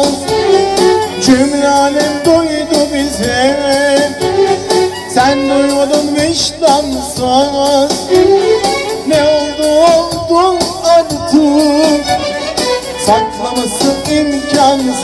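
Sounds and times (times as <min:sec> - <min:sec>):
folk dance music: 0:00.0 - 0:15.0.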